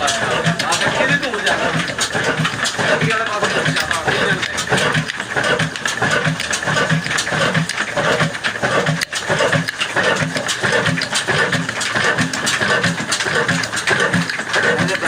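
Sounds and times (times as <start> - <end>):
clatter of engine knocks: 0.0 - 15.0
diesel engine chugging: 0.0 - 15.0.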